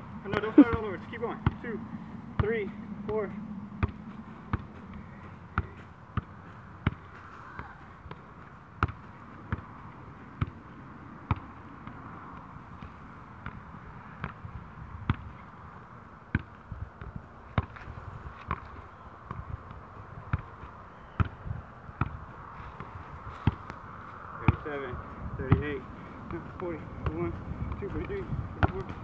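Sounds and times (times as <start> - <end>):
soccer ball thuds: 0.2 - 15.4, 16.3 - 29.0.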